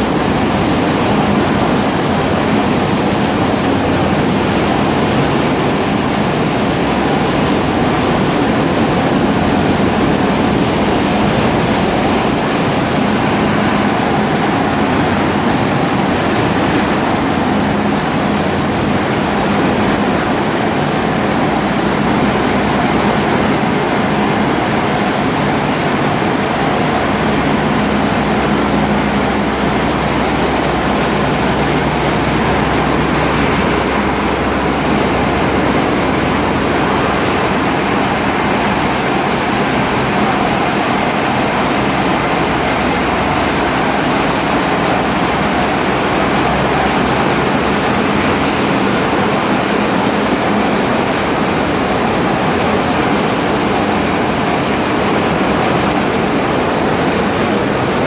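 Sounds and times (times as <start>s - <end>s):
engine room machinery roaring: 0.0s - 58.0s.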